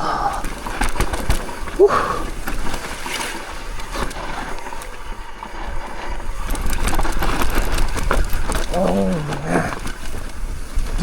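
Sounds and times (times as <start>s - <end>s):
bike tyres scraping through dirt: 0.0s - 11.0s.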